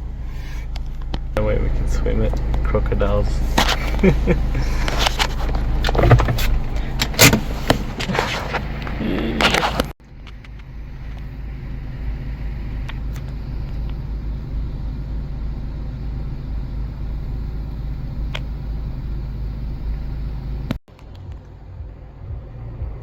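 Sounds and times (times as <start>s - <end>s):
motor vehicle rumble: 0.0s - 23.0s.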